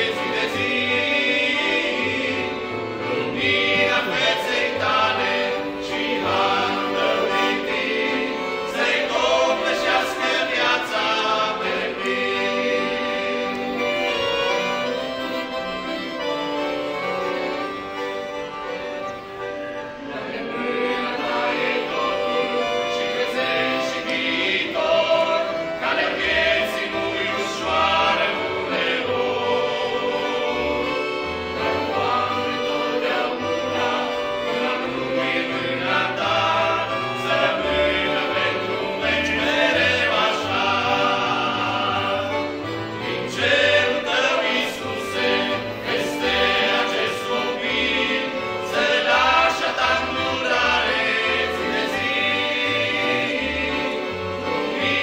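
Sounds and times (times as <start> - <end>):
mixed choir singing a hymn: 0.0 - 18.2, 19.2 - 55.0
piano accordion: 0.0 - 55.0.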